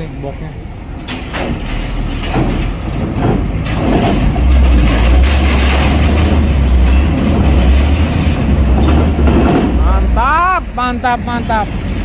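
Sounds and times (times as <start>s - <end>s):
heavy truck engine rumbling: 0.0s - 12.0s.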